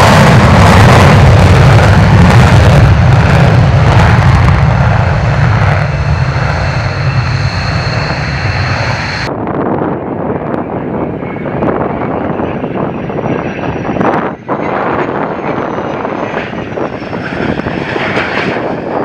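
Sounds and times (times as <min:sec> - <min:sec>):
high steady jet whine: 0:00.0 - 0:19.0
jet approaching: 0:00.0 - 0:19.0
jet taking off with afterburner: 0:00.0 - 0:19.0.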